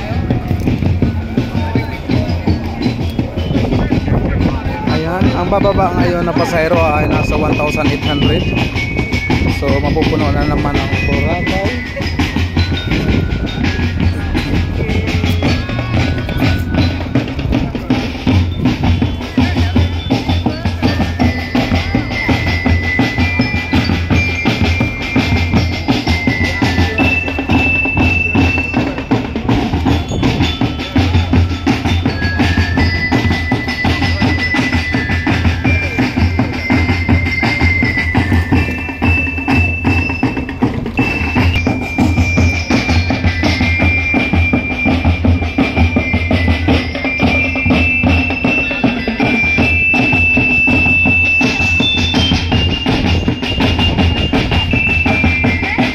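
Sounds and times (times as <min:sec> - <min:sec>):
drum beat: 0:00.0 - 0:55.9
high bell-like melody: 0:00.0 - 0:55.9.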